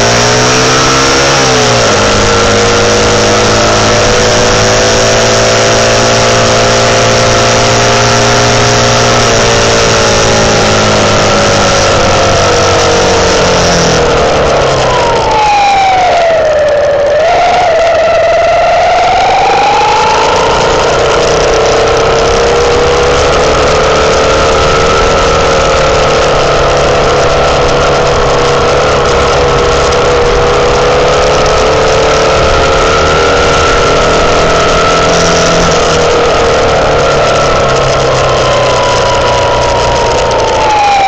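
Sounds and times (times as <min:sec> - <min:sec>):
motorcycle engine whining: 0:00.0 - 0:41.0.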